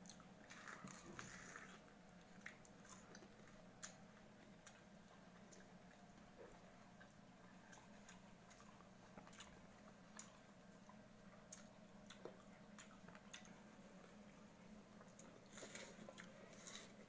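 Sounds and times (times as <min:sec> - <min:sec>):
crisp fruit chewing: 0:00.0 - 0:17.0
low steady hum: 0:00.0 - 0:17.0.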